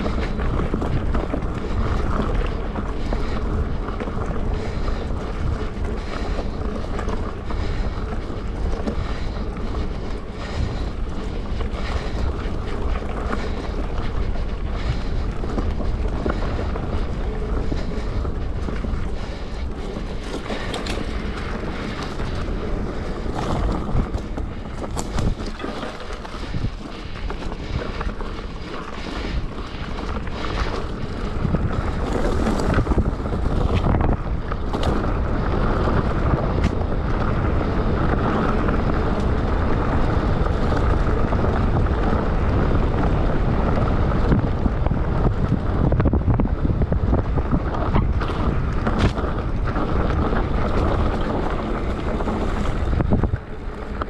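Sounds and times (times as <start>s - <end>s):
bike knocks and rattles: 0.0s - 54.0s
tyres rolling on dirt: 0.0s - 54.0s
wind buffeting microphone: 0.0s - 54.0s.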